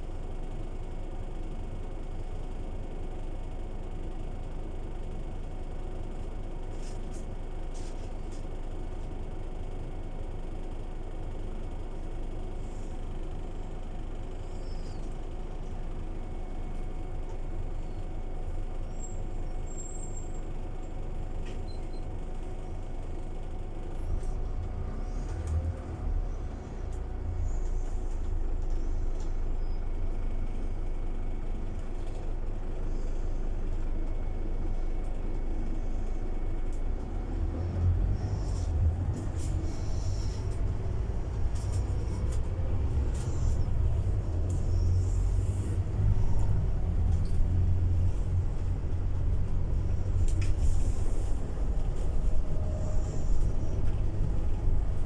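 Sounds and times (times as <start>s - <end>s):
bus engine rumble: 0.0s - 55.0s.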